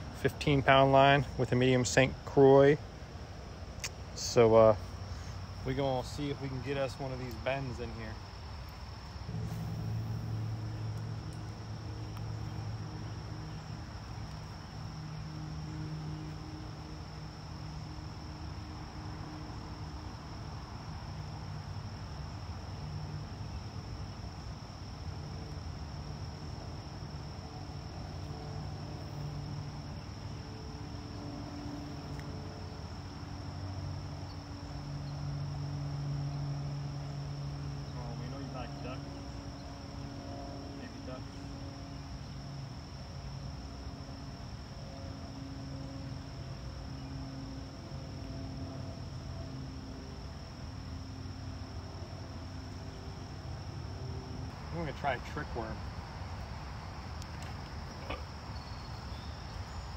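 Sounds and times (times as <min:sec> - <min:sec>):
crickets trilling: 0:00.0 - 0:59.9
low droning hum: 0:04.2 - 0:59.9.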